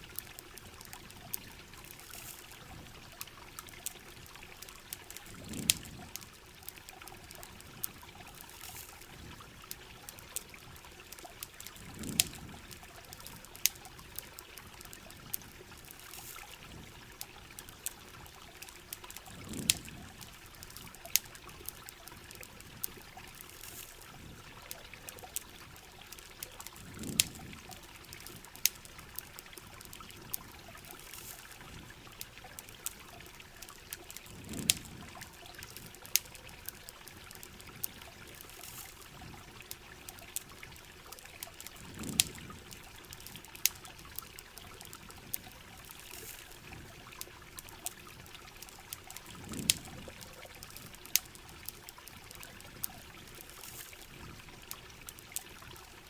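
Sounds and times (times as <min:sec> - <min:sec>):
campfire crackling: 0:00.0 - 0:56.0
rain falling: 0:00.0 - 0:56.0
running water: 0:00.0 - 0:56.0.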